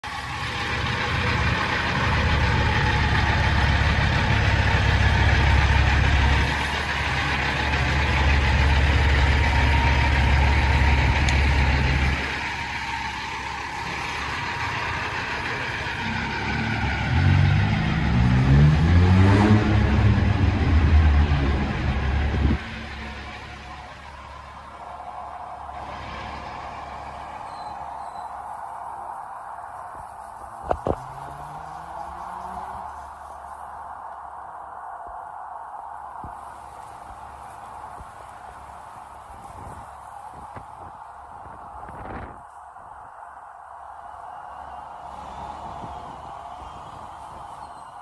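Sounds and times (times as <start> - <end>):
truck diesel engine: 0.0 - 48.0.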